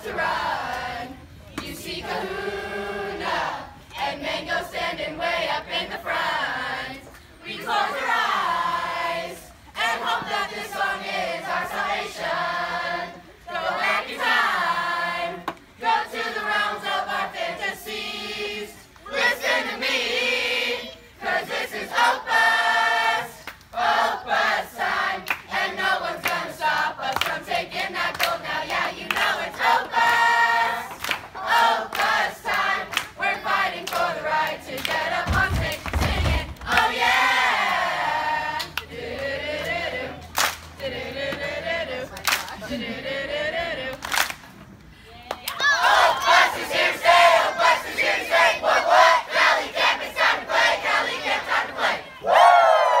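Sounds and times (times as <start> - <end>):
children and adults singing: 0.0 - 44.4, 45.6 - 52.3.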